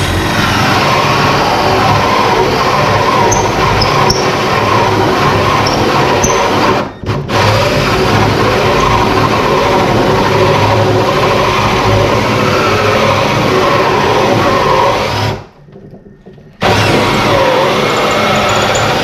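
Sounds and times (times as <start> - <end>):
power drill cutting wood: 0.0 - 15.5, 16.6 - 19.0.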